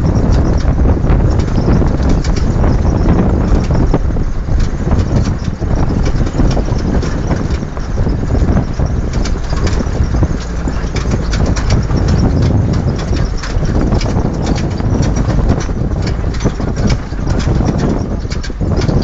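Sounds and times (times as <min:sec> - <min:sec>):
parts rattling: 0:00.0 - 0:19.0
tyres rumbling on gravel: 0:00.0 - 0:19.0.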